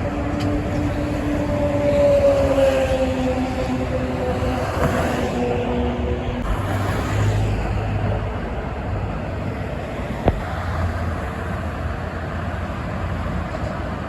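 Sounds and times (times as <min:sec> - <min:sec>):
highway traffic roar: 0:00.0 - 0:14.0.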